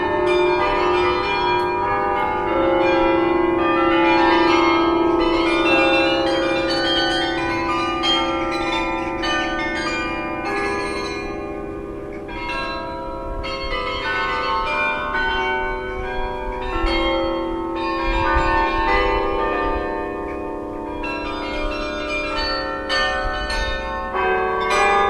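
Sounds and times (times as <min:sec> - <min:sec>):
tower bells ringing: 0:00.0 - 0:25.0.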